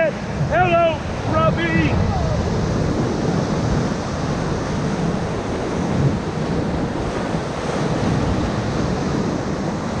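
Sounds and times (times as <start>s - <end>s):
whitewater rushing: 0.0s - 10.0s
wind buffeting microphone: 0.0s - 10.0s.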